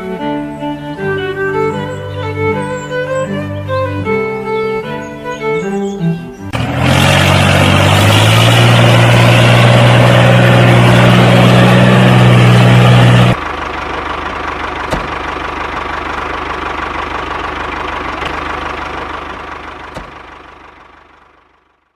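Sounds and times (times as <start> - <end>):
engine running: 0.0 - 21.9.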